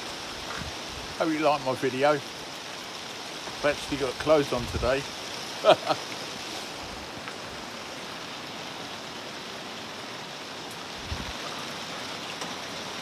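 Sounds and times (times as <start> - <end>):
rain pattering on pond: 0.0 - 13.0.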